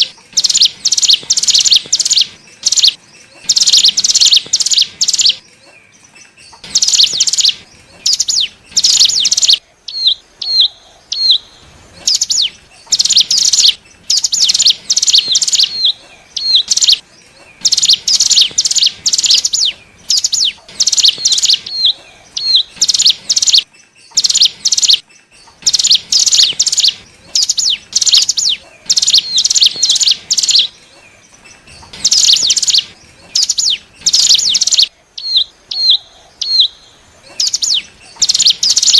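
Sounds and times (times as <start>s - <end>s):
bird song rapid high notes: 0.0s - 38.9s
upslurred bird chirps: 0.0s - 38.9s.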